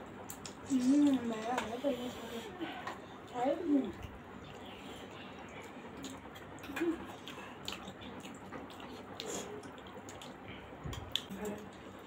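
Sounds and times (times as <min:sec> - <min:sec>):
people chewing wetly: 0:00.2 - 0:12.0.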